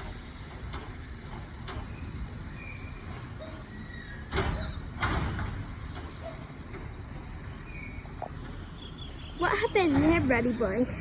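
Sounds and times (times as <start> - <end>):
garbage truck engine rumble: 0.0 - 11.0.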